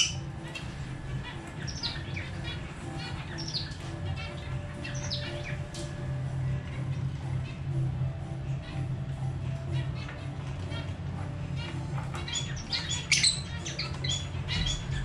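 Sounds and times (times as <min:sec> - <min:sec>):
birds chirping: 0:00.0 - 0:15.0
low steady hum: 0:00.0 - 0:15.0.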